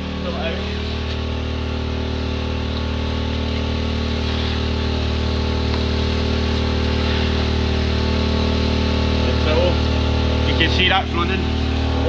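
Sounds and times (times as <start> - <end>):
high-pressure water jet hissing: 0.0 - 12.0
pressure washer engine hum: 0.0 - 12.0.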